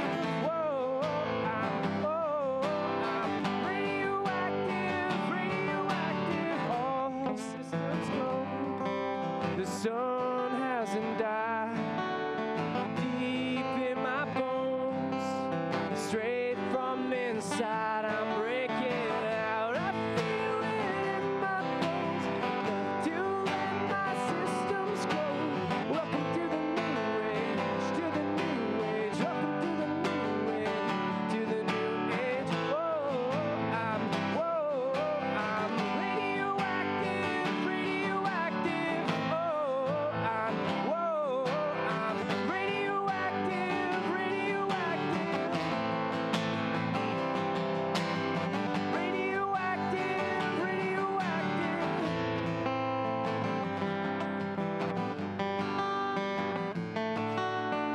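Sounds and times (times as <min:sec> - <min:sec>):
man singing into a microphone: 0:00.0 - 0:47.1, 0:48.6 - 0:53.6
acoustic guitar strumming: 0:00.0 - 0:57.9.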